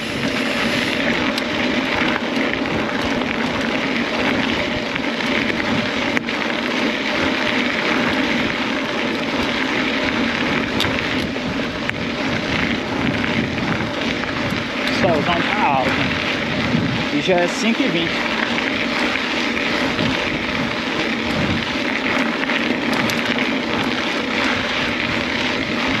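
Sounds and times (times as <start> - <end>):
wind on microphone: 0.0 - 6.4, 7.1 - 26.0
bike tyres rolling over dirt: 0.0 - 26.0.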